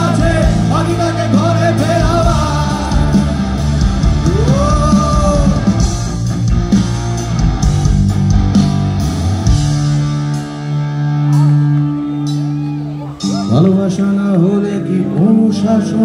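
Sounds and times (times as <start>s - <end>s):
drums: 0.0s - 16.0s
electric guitars: 0.0s - 16.0s.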